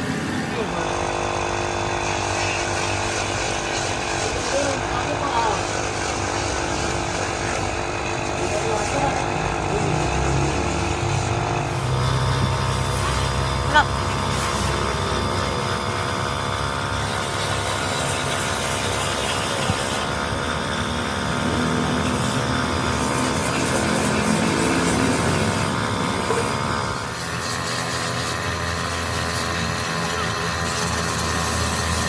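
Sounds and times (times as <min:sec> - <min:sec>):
motor running: 0:00.0 - 0:32.0.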